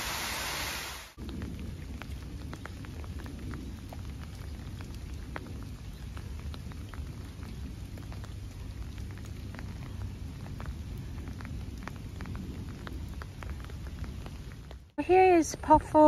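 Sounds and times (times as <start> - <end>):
raindrops ticking: 1.2 - 15.2
steady low rumble: 1.2 - 15.4.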